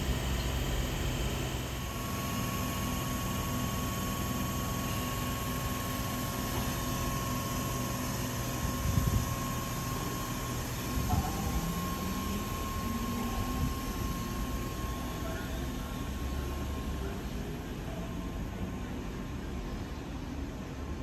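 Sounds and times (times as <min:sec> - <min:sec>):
electric train whine: 0:00.0 - 0:21.0.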